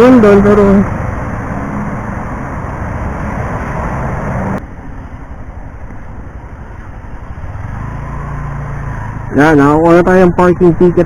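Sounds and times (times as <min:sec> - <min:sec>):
motorcycle engine hum: 0:00.0 - 0:11.0
wind and road noise: 0:00.0 - 0:11.0.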